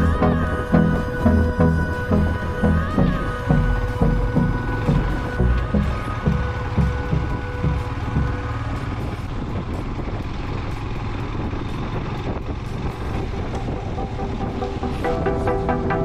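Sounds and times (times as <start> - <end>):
motorcycle engine rumbling: 0.0 - 16.0
road noise: 0.0 - 16.0.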